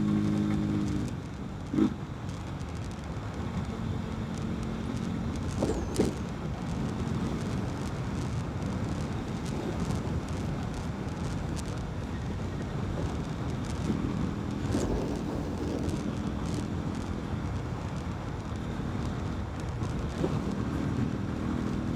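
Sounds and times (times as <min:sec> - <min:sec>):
motorcycle engine running: 0:00.0 - 0:21.9
wind noise on microphone: 0:00.0 - 0:21.9.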